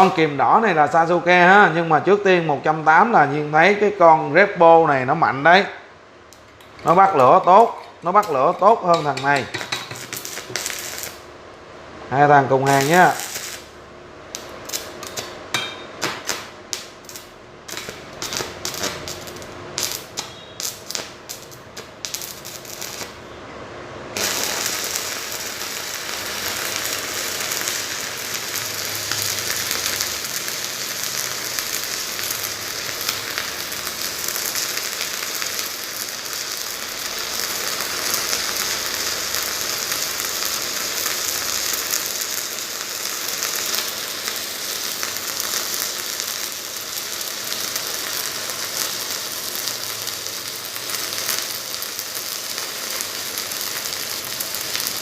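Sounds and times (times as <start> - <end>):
arc welding crackle and pops: 0.0 - 3.8, 6.3 - 23.4, 24.1 - 55.0.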